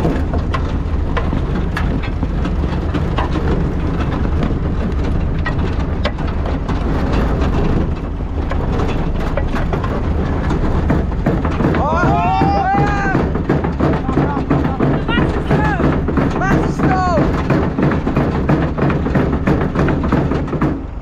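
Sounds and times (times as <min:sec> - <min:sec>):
harvester rattling and clicking: 0:00.0 - 0:21.0
tractor engine running: 0:00.0 - 0:21.0.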